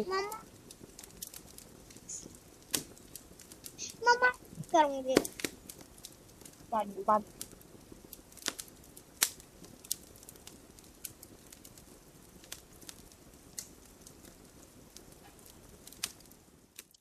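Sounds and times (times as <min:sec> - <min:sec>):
fire pops: 0:00.0 - 0:17.0
low steady hiss: 0:00.0 - 0:17.0
wood fire crackling: 0:00.0 - 0:17.0.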